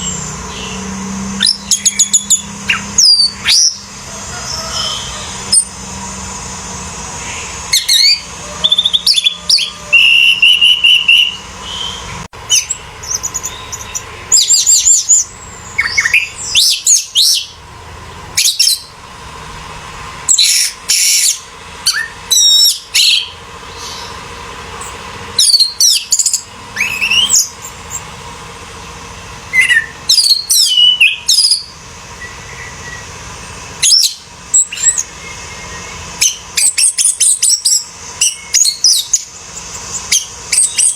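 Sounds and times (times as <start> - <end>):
thrush singing whistled phrases: 0.0 - 5.8, 7.2 - 17.6, 18.4 - 19.0, 20.3 - 24.3, 25.4 - 28.1, 29.5 - 33.2, 33.8 - 40.9.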